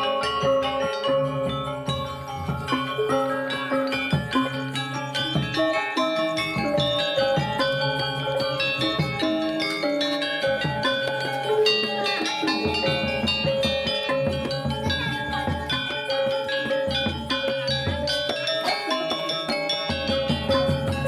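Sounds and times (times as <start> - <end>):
gamelan metallophones ringing: 0.0 - 21.0.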